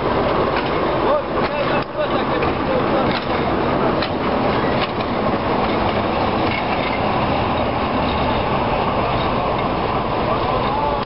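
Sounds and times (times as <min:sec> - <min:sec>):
locomotive engine: 0:00.0 - 0:11.0
train wheels on rails: 0:00.0 - 0:11.0.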